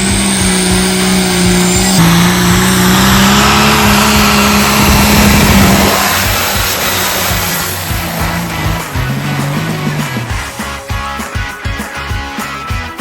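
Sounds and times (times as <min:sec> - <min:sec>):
racing engine running hard: 0:00.0 - 0:13.0.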